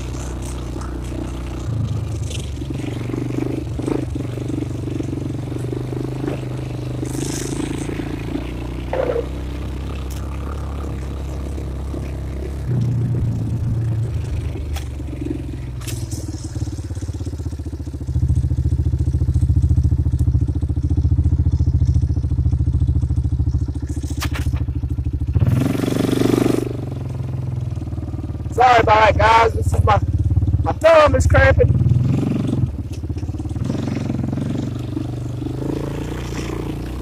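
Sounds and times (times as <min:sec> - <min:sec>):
quad bike engine running: 0:00.0 - 0:37.0.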